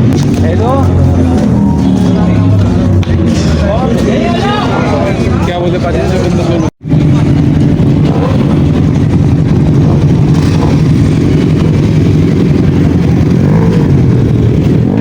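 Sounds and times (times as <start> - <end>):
motorcycle engine running loud: 0.0 - 15.0.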